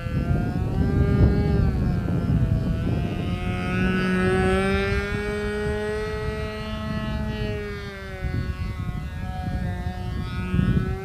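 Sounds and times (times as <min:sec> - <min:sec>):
model plane engine buzzing: 0:00.0 - 0:11.0.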